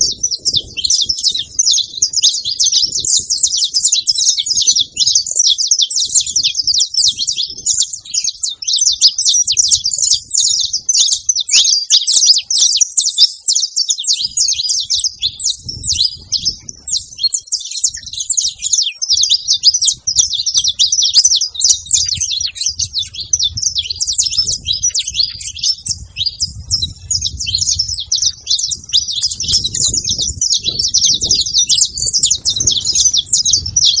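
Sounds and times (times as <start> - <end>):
finches chirping: 0.0 - 34.0.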